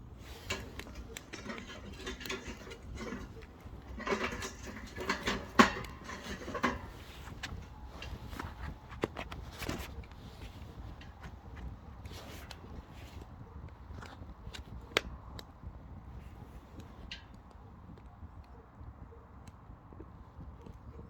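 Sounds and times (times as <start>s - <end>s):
firewood crackling and popping: 0.0s - 18.6s.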